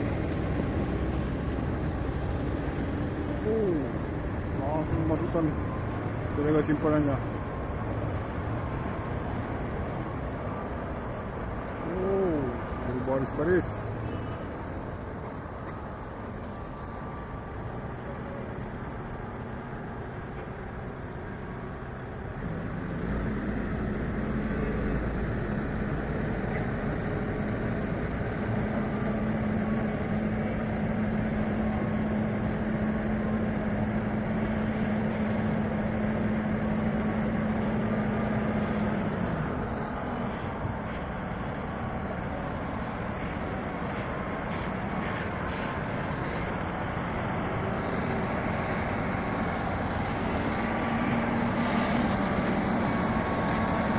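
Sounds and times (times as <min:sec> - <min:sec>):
truck diesel engine under load: 0:00.0 - 0:53.9.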